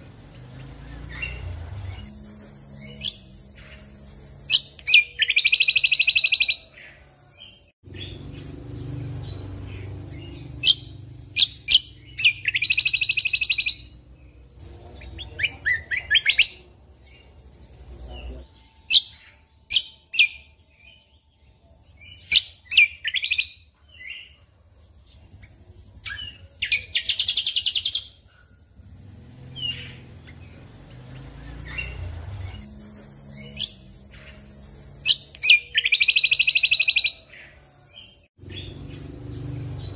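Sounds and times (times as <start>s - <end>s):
songbird singing with rattling trills: 0.0s - 39.9s.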